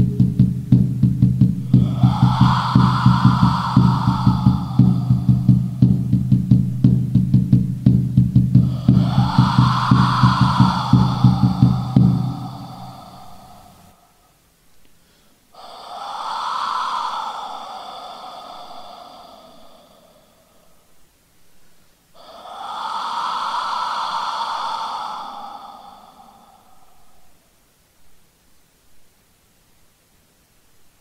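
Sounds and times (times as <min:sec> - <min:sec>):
breathy wind instrument blasts: 0:00.0 - 0:14.4, 0:15.0 - 0:27.6.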